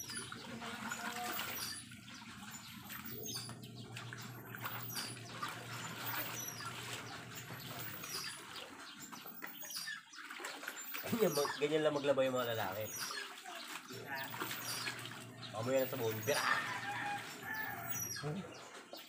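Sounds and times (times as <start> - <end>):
clothes sloshing in water: 0.0 - 19.0
faint birds chirping: 0.0 - 19.0
water streaming into basin: 0.0 - 19.0.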